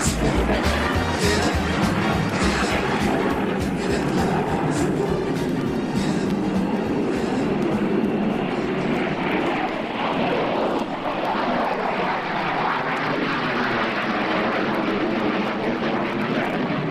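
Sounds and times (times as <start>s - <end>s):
aircraft engine rushing: 0.0s - 16.9s.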